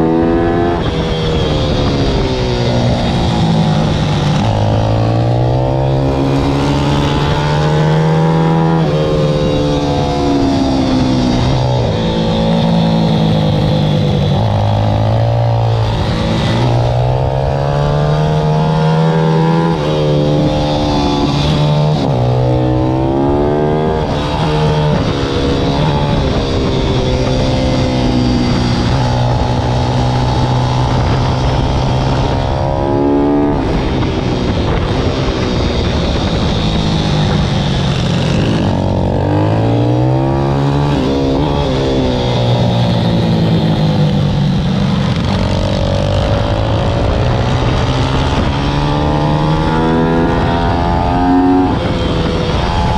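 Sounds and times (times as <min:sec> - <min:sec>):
motorbike engine revving: 0:00.0 - 0:52.9.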